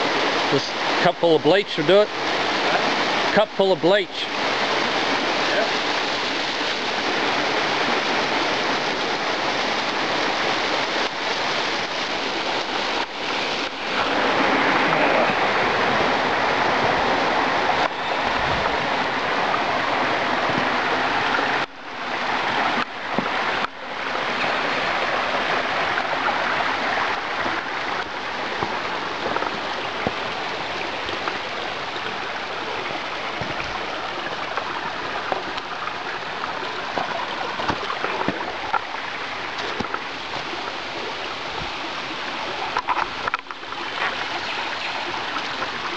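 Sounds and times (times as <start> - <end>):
creek water rushing over rocks: 0.0 - 45.9.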